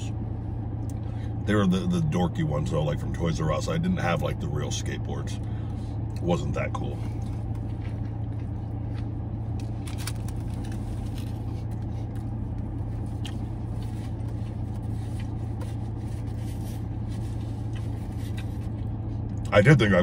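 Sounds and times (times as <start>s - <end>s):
low hum of parked car: 0.0s - 20.0s.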